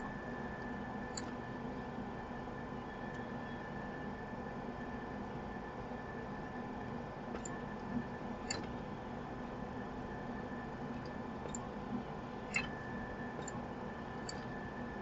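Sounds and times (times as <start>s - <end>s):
equipment hum and hiss: 0.0s - 15.0s.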